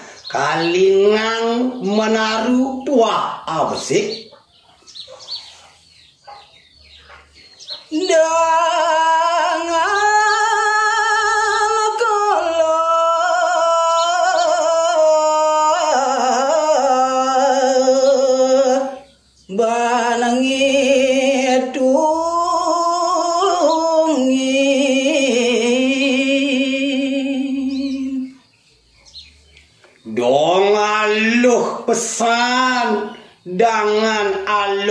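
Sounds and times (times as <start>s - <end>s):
man singing solo: 0.0s - 4.1s, 7.9s - 28.4s, 30.1s - 34.9s.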